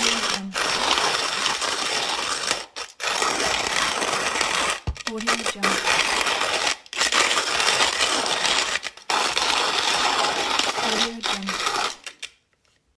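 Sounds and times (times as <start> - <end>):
coffee grinder grinding beans: 0.0 - 12.4.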